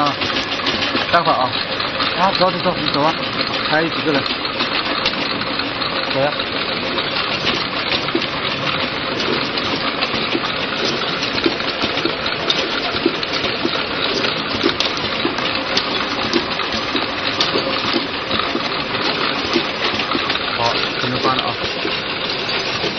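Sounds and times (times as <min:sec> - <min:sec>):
glass vials clattering in machine: 0:00.0 - 0:22.9.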